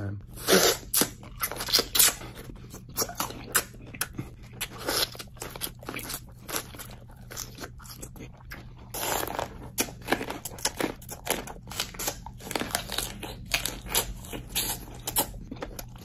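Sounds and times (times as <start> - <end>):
crunchy chewing: 0.4 - 16.0.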